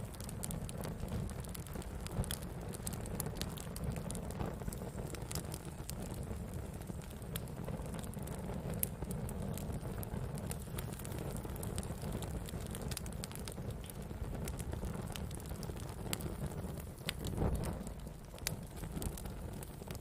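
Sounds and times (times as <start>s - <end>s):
burning wood crackling and popping: 0.0s - 20.0s
campfire flames rushing: 0.0s - 20.0s.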